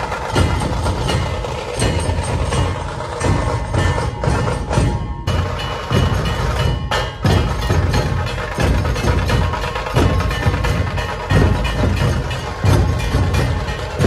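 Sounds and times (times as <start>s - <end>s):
deep drum beats: 0.0s - 14.0s
drum troupe drumming: 0.0s - 14.0s.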